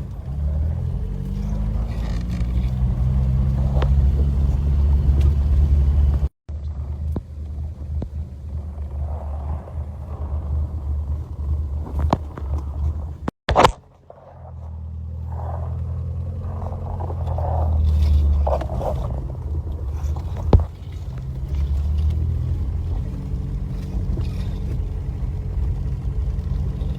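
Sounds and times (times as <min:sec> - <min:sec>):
car engine driving: 0:00.0 - 0:26.9.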